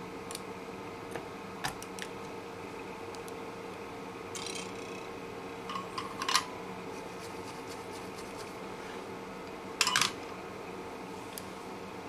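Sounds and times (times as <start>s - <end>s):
extraction fan humming: 0.0s - 12.0s.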